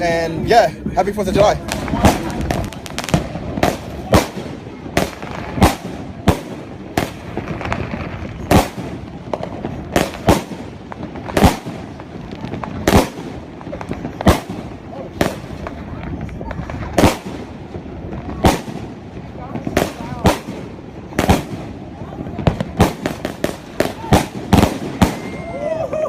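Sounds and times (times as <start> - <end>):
firecrackers banging: 0.0 - 26.0.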